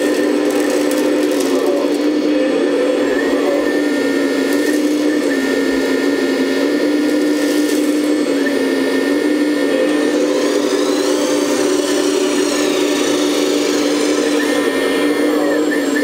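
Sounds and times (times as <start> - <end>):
electric hydraulic pump whine: 0.0 - 16.0.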